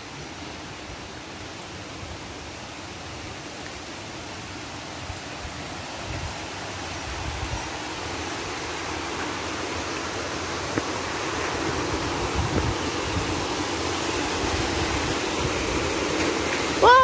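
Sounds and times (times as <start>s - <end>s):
water cascading over weir: 0.0s - 17.0s.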